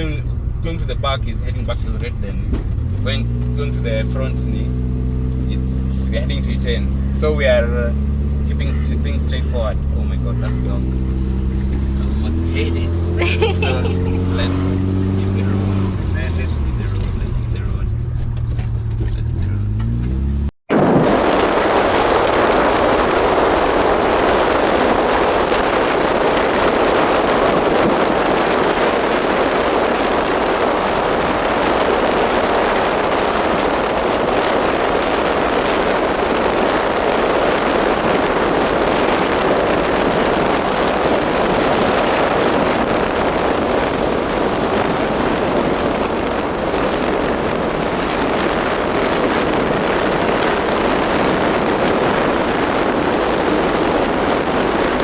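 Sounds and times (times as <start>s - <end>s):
vehicle engine running: 0.0s - 55.0s
wind and road noise: 0.0s - 55.0s.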